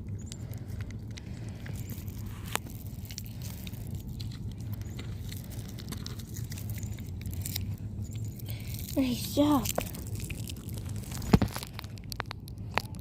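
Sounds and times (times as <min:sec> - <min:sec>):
crunching and clicks: 0:00.0 - 0:13.0
steady low hum: 0:00.0 - 0:13.0.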